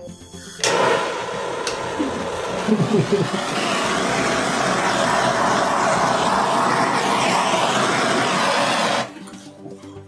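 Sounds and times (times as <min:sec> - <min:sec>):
butane torch hissing: 0:00.0 - 0:09.2.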